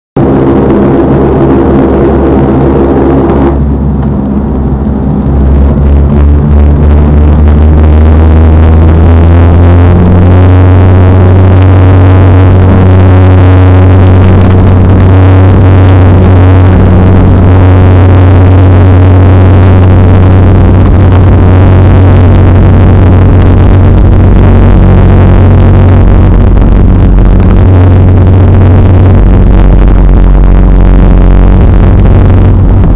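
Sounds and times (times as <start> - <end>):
constant engine hum: 0.2 - 32.9
propeller drone: 0.2 - 32.9.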